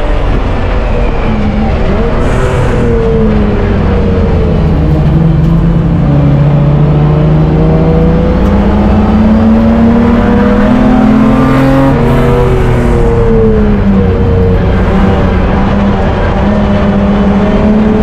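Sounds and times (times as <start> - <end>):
race car engine pulling hard: 0.0 - 18.0.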